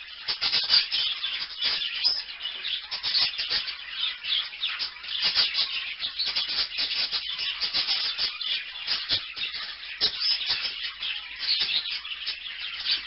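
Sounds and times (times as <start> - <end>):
parakeets chattering: 0.0 - 13.0.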